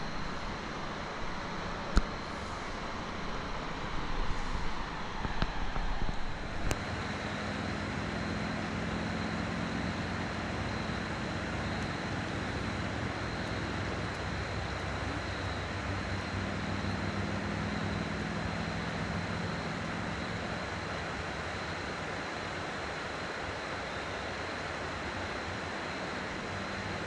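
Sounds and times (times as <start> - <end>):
distant traffic engine drone: 0.0 - 27.0.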